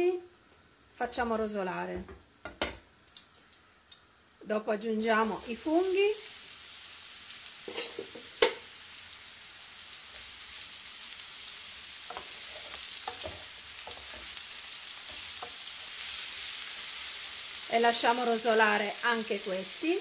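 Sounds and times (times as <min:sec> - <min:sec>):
mushrooms sizzling in oil: 0:00.8 - 0:20.0.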